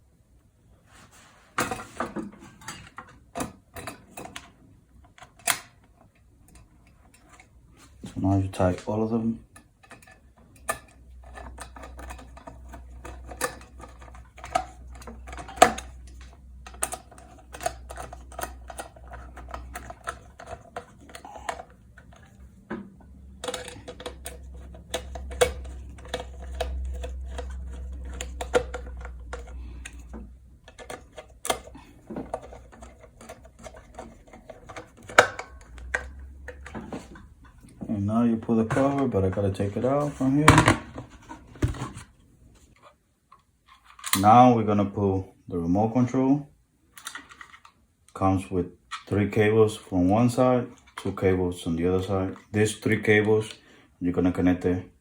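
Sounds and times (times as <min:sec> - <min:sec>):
low steady hum: 0:00.0 - 0:55.0
wires and plastic parts rustling: 0:00.8 - 0:44.5, 0:46.9 - 0:53.6.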